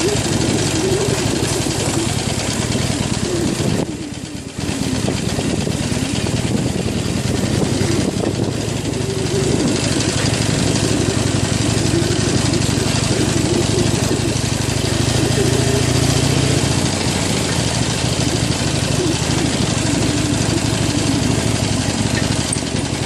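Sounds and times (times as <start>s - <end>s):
motorcycle engine at low speed: 0.0s - 23.0s
wind and tyre noise: 0.0s - 23.0s.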